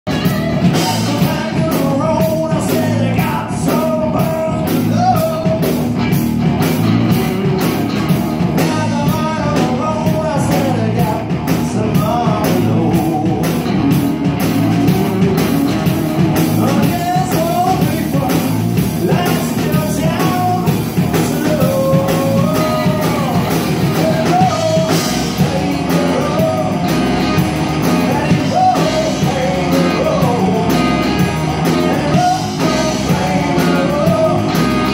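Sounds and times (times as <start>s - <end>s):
man singing: 0.1s - 6.1s, 8.4s - 14.0s, 14.7s - 34.9s
drum kit beat: 0.1s - 34.9s
electric guitars: 0.1s - 34.9s.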